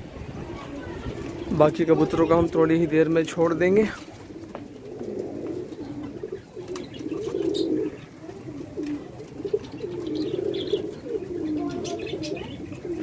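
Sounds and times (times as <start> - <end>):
pigeons cooing: 0.4 - 13.0.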